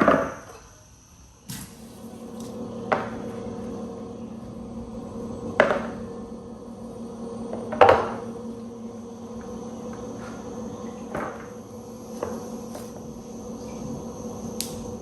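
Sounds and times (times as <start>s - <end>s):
appliance humming: 1.1s - 15.0s.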